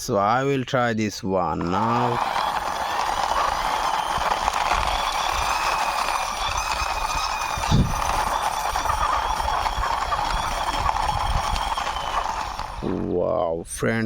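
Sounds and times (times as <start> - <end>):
toy wheels rolling: 1.6 - 13.0.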